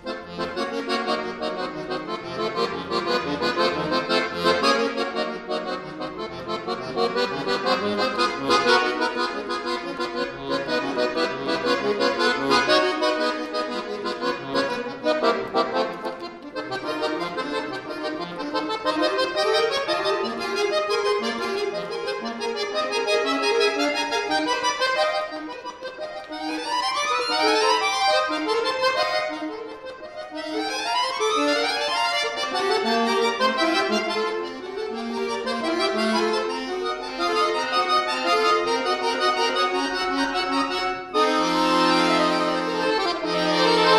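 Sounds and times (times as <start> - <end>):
accordion playing classical piece: 0.0 - 43.9.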